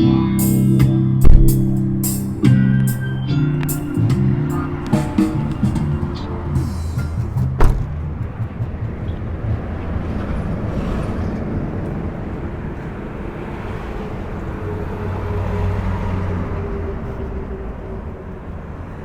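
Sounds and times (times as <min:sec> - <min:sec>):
low engine hum: 0:00.0 - 0:19.0
road noise: 0:00.0 - 0:19.0.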